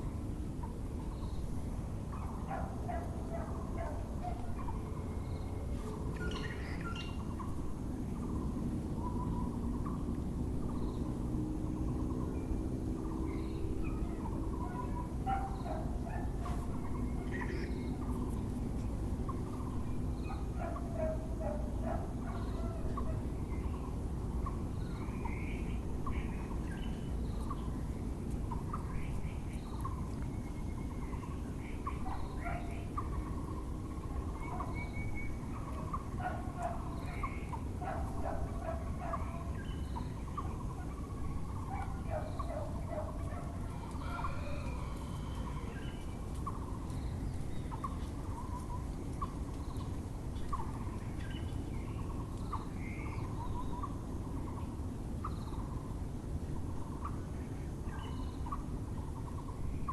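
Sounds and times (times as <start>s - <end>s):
low background rumble: 0.0s - 59.9s
birds chattering: 2.1s - 55.9s.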